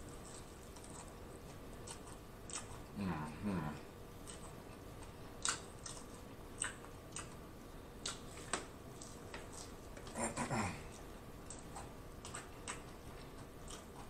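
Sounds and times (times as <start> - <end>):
chewing crunchy fried food: 0.0 - 14.0.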